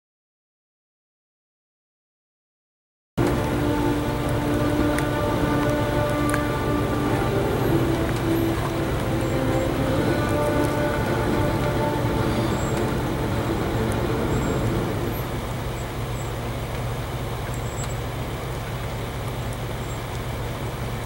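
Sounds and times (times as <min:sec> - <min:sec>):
car engine low rumble: 0:03.2 - 0:21.0.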